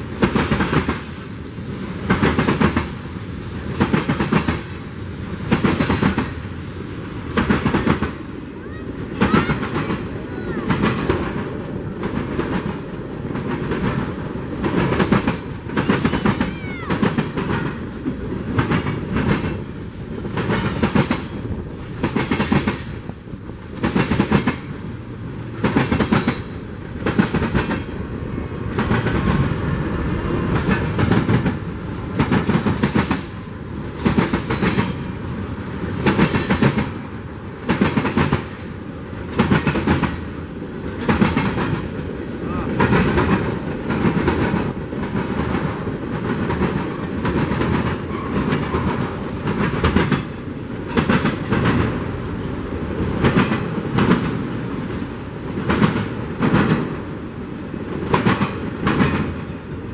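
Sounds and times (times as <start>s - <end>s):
train wheels clacking over rail joints: 0.0s - 28.0s, 30.5s - 42.1s, 42.7s - 52.0s, 53.0s - 57.0s, 57.9s - 59.6s
rumble of train cars: 0.0s - 59.9s.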